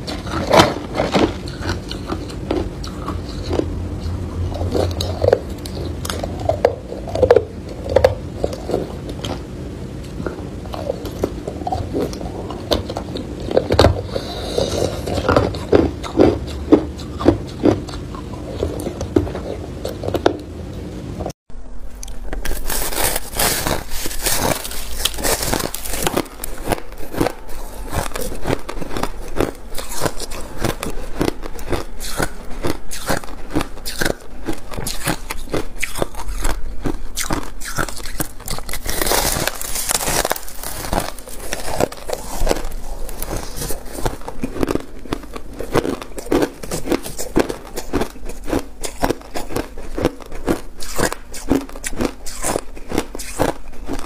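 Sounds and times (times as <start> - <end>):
chewing crushed ice crunching: 0.0 - 20.5, 22.0 - 54.0.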